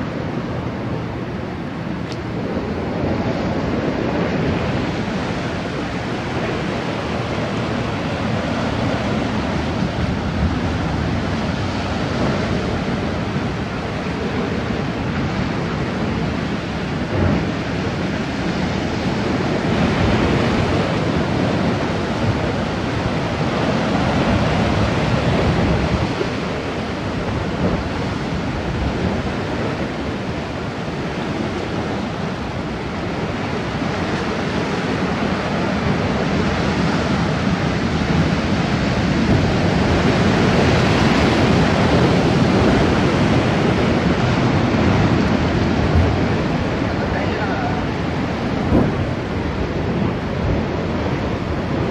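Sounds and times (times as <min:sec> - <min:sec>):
sea surf washing into rocky gully: 0:00.0 - 0:51.9.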